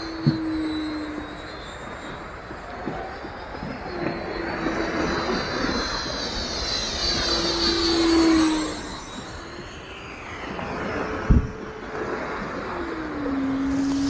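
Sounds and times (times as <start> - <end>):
electric ducted fan whining: 0.0 - 14.0.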